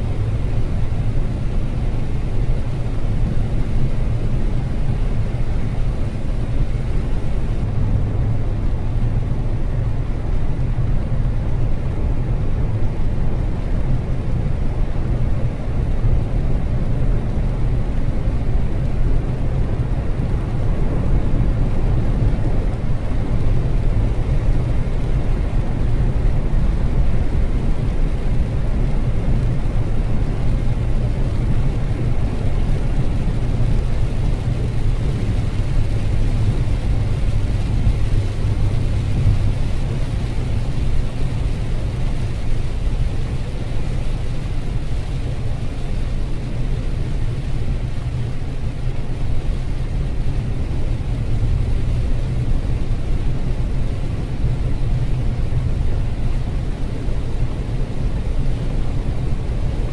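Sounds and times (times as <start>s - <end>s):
engine and tyres rumbling: 0.0s - 59.9s
rain on car: 0.0s - 59.9s
tyres hissing on wet asphalt: 0.0s - 59.9s.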